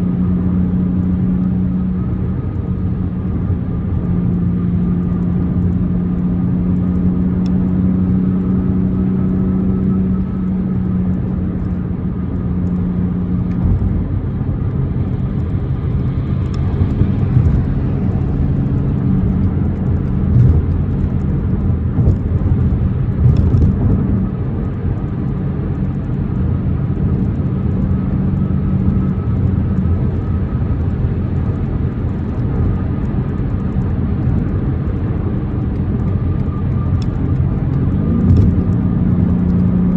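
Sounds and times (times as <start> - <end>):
car engine running: 0.0 - 39.9
road and tyre noise: 0.0 - 39.9.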